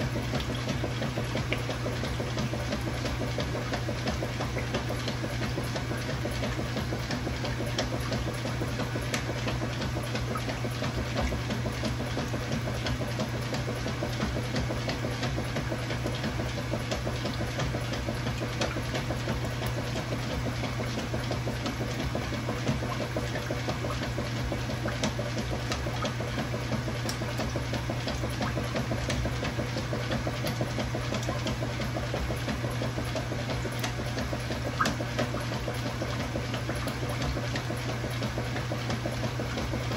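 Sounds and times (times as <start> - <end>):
washing machine motor hum: 0.0 - 39.9
water churning and splashing: 0.0 - 39.9.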